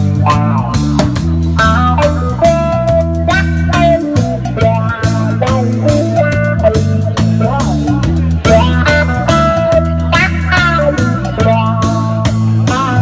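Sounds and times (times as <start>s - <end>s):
bass guitar: 0.0s - 13.0s
drum kit steady beat: 0.0s - 13.0s
electric guitar melody: 0.0s - 13.0s.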